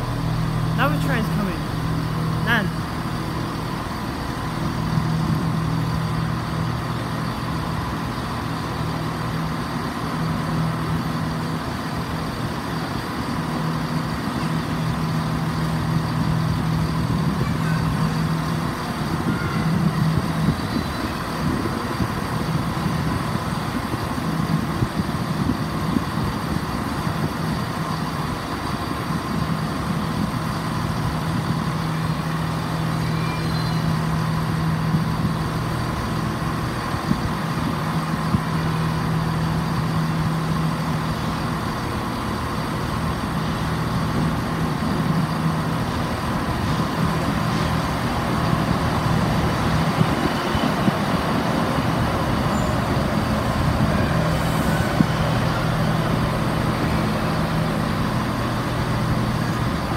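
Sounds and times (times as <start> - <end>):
train humming at platform: 0.0 - 59.9.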